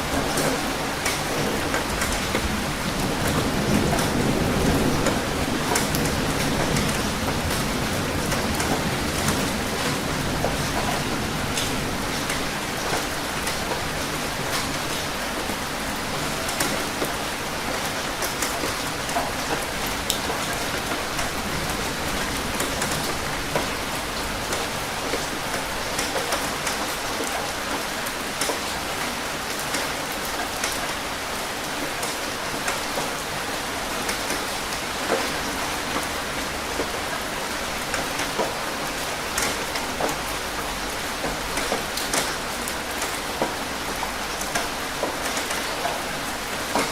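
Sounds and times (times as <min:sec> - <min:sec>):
rain drops hitting a surface: 0:00.0 - 0:46.9.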